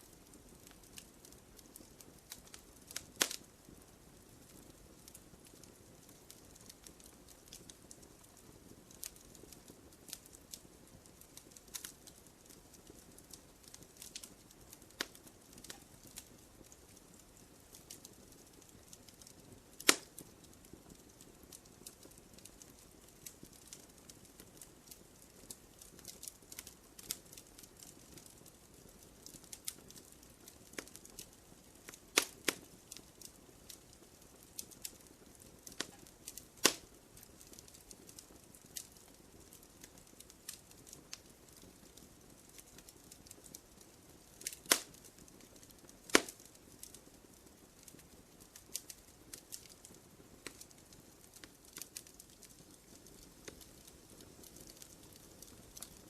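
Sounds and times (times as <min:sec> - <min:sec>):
wood fire crackling in fireplace: 0:00.0 - 0:56.0.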